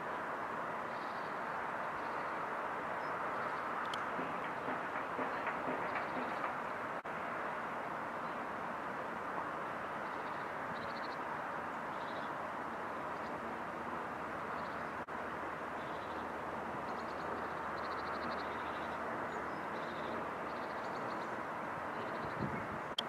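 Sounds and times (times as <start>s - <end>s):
distant town and traffic hum: 0.0s - 23.0s.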